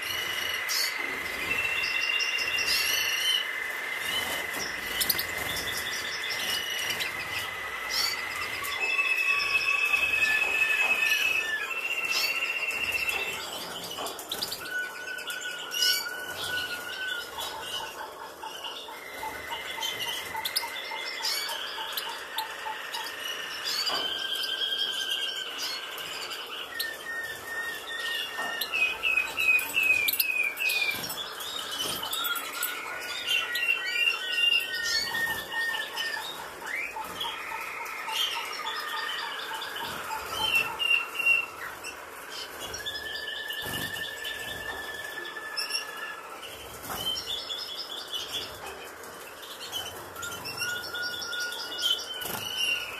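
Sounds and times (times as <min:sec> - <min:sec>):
bird chirps: 0:00.0 - 0:52.9
songbirds trilling: 0:00.0 - 0:52.9.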